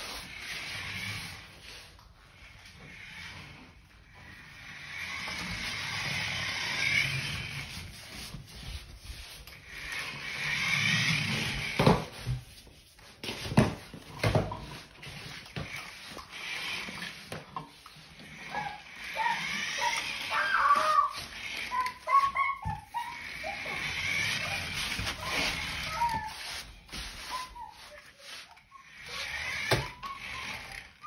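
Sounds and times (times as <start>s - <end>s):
toy truck motor whirring: 0.0s - 12.5s, 13.2s - 31.0s.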